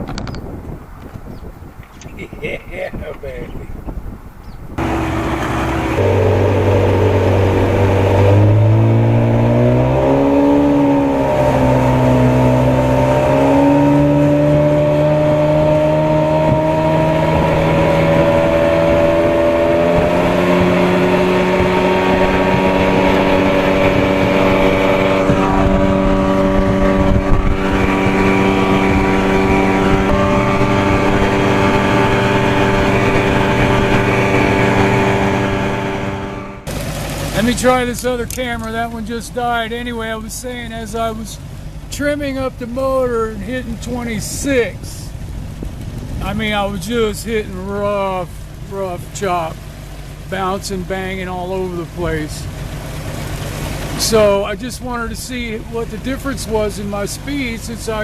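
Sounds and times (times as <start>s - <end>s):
outboard motor driving boat: 0.0s - 58.0s.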